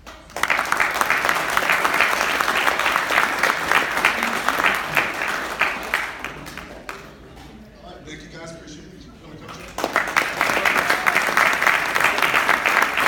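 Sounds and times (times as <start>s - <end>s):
audience applauding: 0.0s - 7.3s, 9.5s - 13.0s.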